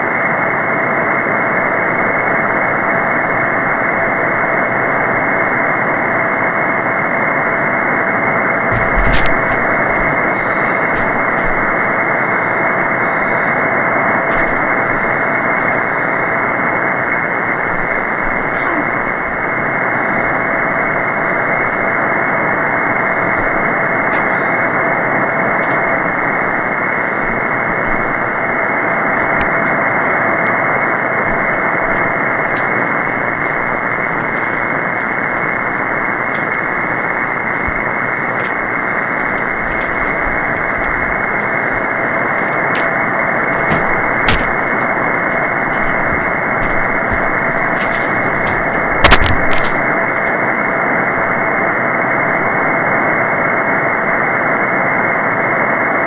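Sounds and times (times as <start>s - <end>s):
faint static clicks: 0.0s - 55.6s
radio receiver hiss: 0.0s - 56.0s.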